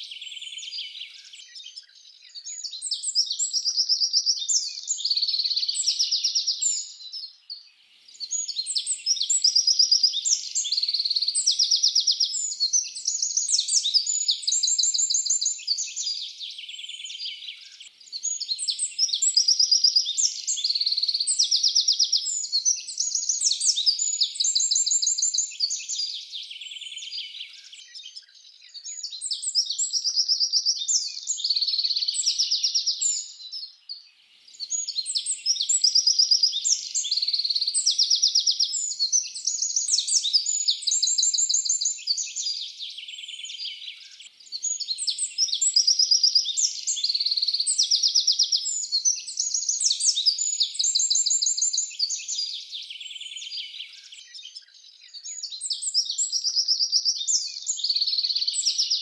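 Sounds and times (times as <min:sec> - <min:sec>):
wren singing trills: 0:00.0 - 0:33.8, 0:34.5 - 0:59.0.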